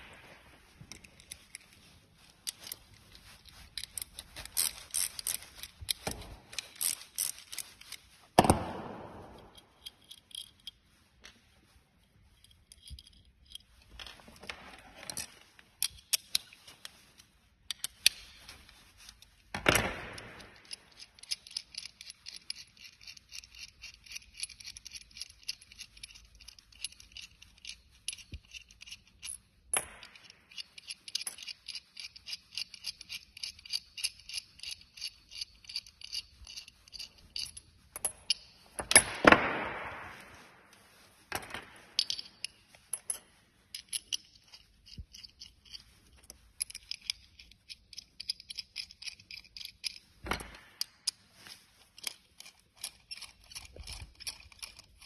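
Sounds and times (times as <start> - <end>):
metal tools clinking: 0.8 - 8.1, 9.2 - 11.4, 12.3 - 16.9, 20.2 - 39.3, 41.3 - 55.0.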